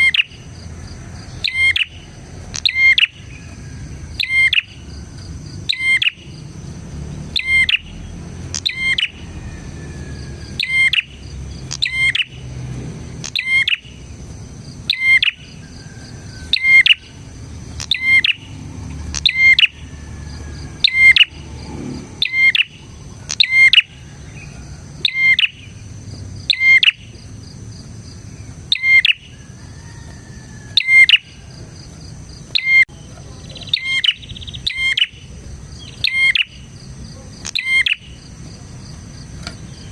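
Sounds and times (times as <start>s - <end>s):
high insect-like buzz: 0.0s - 32.8s
bird chirping calls: 0.0s - 39.9s.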